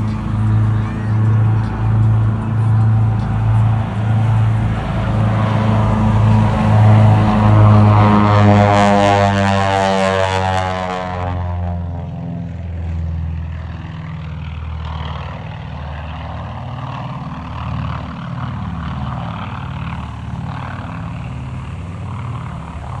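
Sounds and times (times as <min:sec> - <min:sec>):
propeller airplane flying past: 0:00.0 - 0:23.0.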